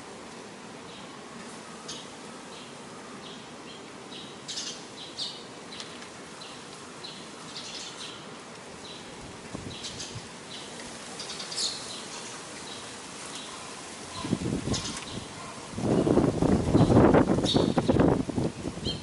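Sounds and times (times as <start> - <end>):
steady background hiss: 0.0 - 19.0
sparrows chirping: 1.8 - 18.1.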